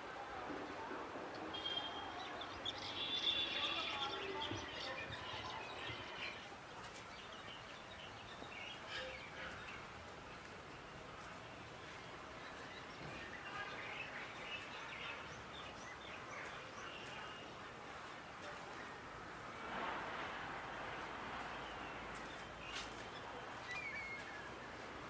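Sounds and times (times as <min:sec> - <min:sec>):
birds chirping: 0:01.4 - 0:18.3, 0:21.4 - 0:24.9.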